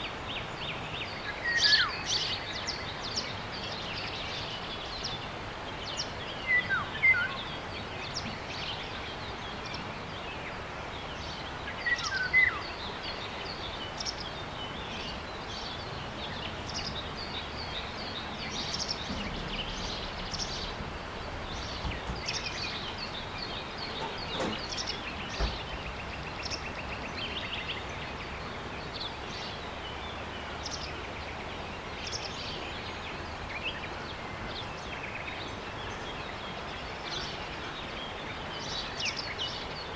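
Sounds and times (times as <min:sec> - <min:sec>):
background hiss: 0:00.0 - 0:39.9
small birds chirping: 0:00.3 - 0:39.9.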